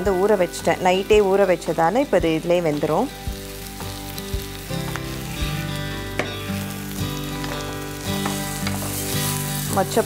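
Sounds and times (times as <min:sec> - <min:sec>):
soft background music: 0:00.0 - 0:10.0
vegetables sizzling in oil: 0:00.0 - 0:10.0.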